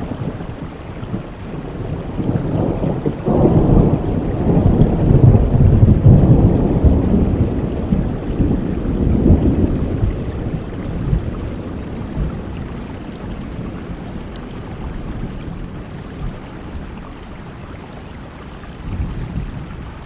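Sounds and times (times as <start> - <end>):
thunder rumbling: 0.0 - 17.0
steady rain: 0.0 - 20.0.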